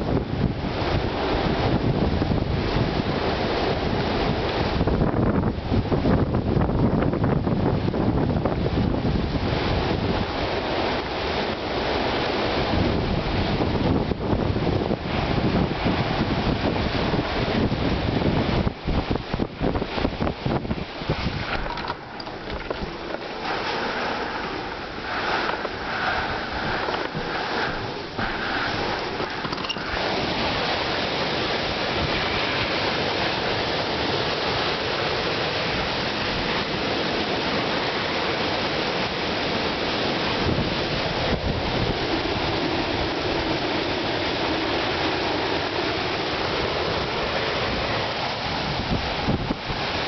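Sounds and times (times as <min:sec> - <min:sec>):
storm wind blowing on microphone: 0:00.0 - 0:50.0.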